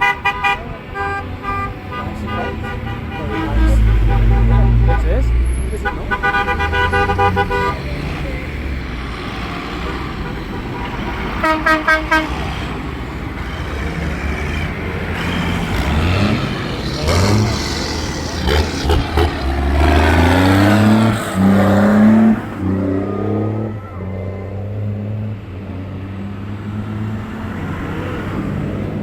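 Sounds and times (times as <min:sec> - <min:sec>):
horn toots: 0:00.0 - 0:08.4, 0:09.6 - 0:24.5
tractor engines passing: 0:00.0 - 0:29.0.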